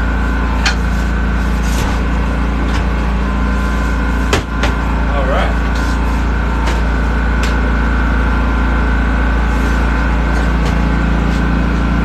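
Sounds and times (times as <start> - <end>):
constant whine: 0.0 - 12.0
engine running steadily: 0.0 - 12.0.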